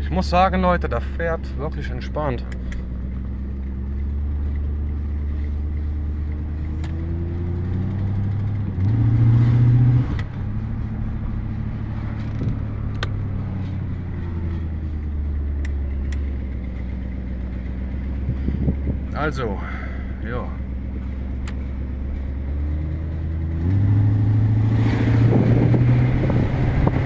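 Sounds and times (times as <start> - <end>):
car engine running inside cabin: 0.0 - 27.0.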